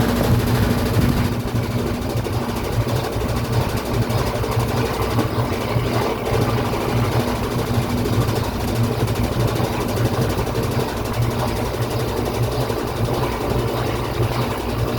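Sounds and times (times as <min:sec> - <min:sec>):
washing machine spinning: 0:00.0 - 0:14.9.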